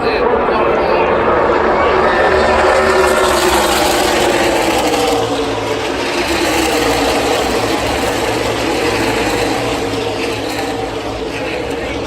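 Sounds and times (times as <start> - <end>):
racing car engines: 0.0 - 12.0.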